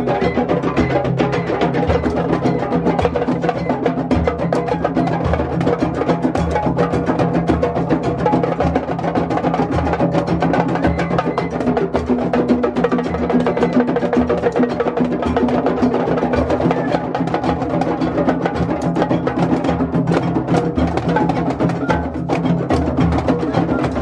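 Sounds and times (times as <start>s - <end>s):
hand drums playing fast rhythm: 0.0s - 24.0s.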